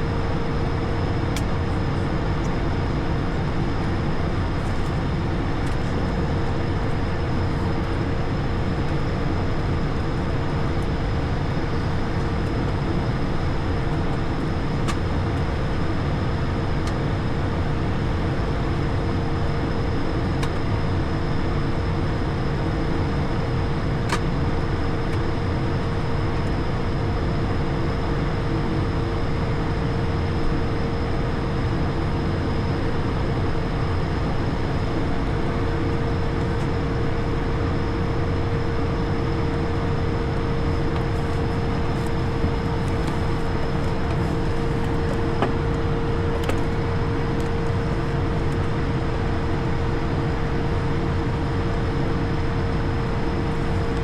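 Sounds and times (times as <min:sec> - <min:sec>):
aircraft cockpit engine rumble: 0:00.0 - 0:54.0.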